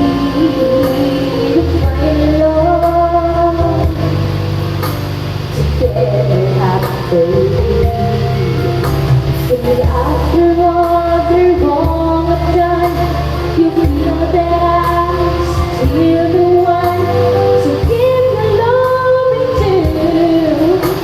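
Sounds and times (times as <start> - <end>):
instrumental accompaniment: 0.0 - 21.0.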